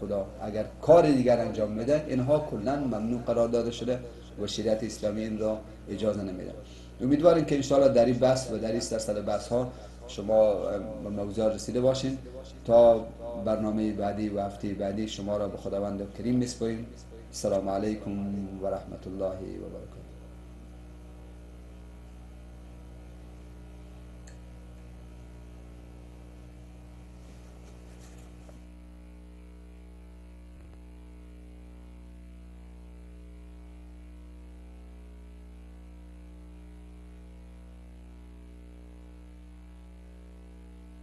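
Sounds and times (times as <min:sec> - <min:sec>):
electrical mains hum: 0:00.0 - 0:41.0.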